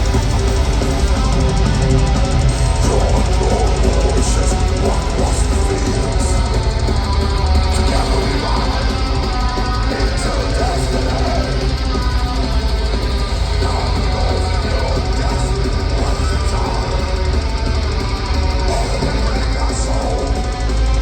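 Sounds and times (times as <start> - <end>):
distorted electric guitars: 0.0 - 21.0
drum kit: 0.0 - 21.0.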